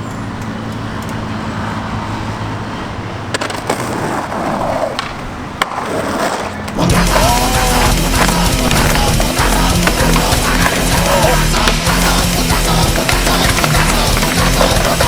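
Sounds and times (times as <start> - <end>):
skateboard wheels rolling on pavement: 0.0 - 15.0.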